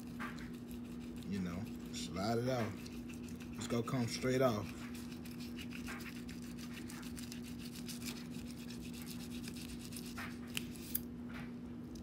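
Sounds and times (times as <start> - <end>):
knife scraping fish skin: 0.0 - 11.0
low steady hum: 0.0 - 12.0.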